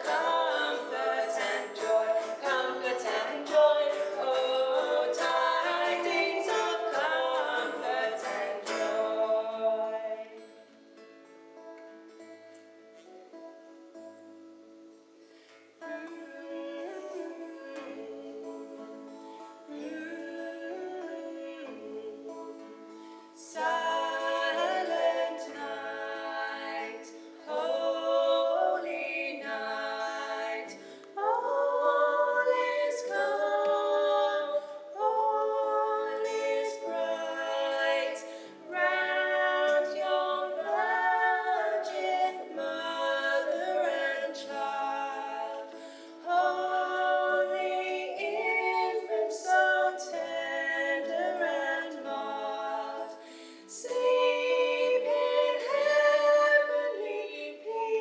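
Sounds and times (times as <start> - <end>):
women singing in harmony: 0.0 - 10.7, 15.8 - 58.0.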